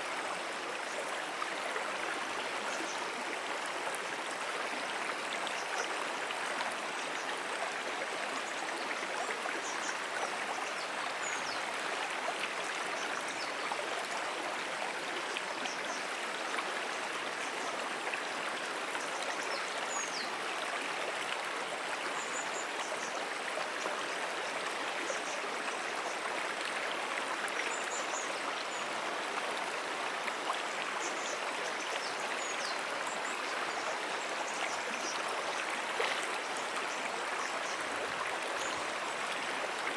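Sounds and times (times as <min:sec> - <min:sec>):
brook water flowing: 0:00.0 - 0:39.9.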